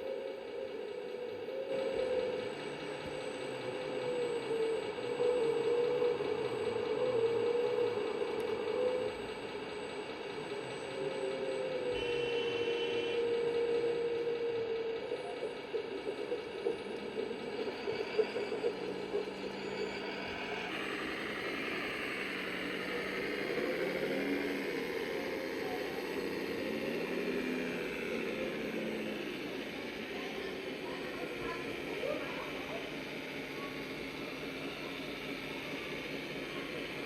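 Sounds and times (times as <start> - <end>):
electronic engine sound module: 0.1 - 37.0.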